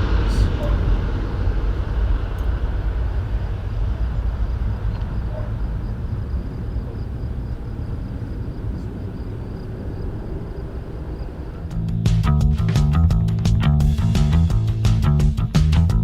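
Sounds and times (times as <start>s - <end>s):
jet engines rumbling at takeoff: 0.0s - 16.0s.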